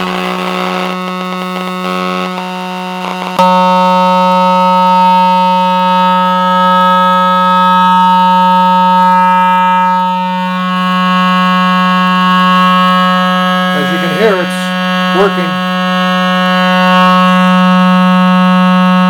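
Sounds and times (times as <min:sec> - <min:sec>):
buzzy test tone from loudspeaker: 0:00.0 - 0:19.0.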